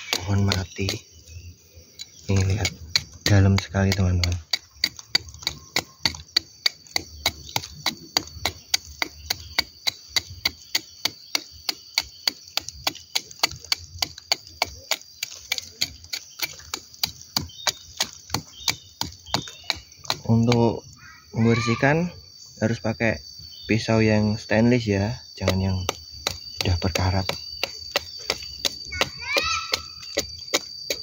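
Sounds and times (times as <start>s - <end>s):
knife chipping and scraping wood: 0.0s - 20.7s, 25.3s - 31.0s.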